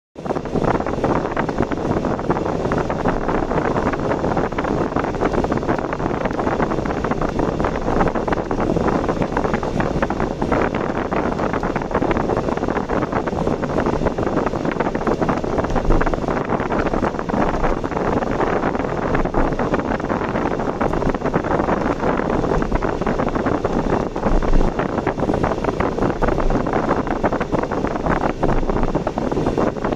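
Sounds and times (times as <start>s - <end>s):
car road and wind noise: 0.2s - 29.9s.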